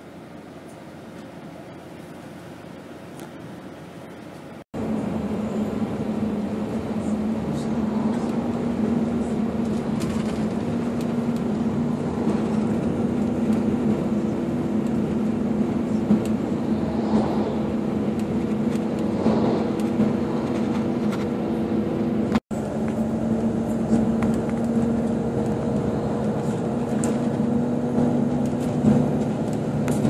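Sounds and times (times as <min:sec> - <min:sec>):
bus engine drone: 0:00.0 - 0:30.0
road noise rushing: 0:01.8 - 0:30.0.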